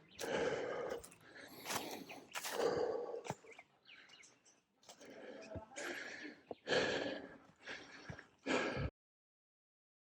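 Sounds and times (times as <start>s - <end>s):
man breathing heavily: 0.0s - 9.0s.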